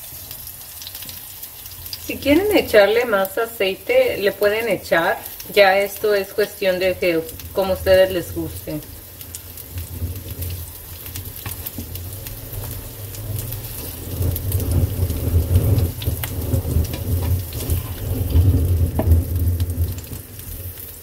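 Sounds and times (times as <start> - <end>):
patties sizzling in hot oil: 0.0 - 21.0
low rumble: 3.8 - 20.6.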